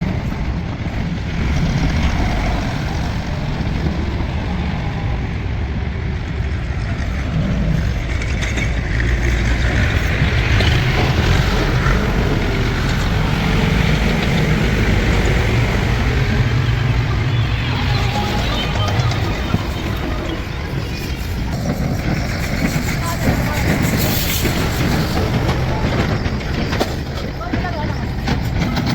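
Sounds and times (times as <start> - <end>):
heavy diesel engine running: 0.0 - 28.9.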